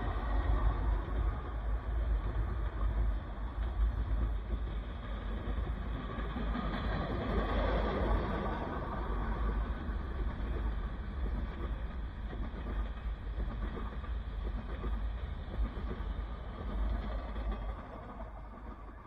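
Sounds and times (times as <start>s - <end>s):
steel wheels on rails: 0.0s - 19.0s.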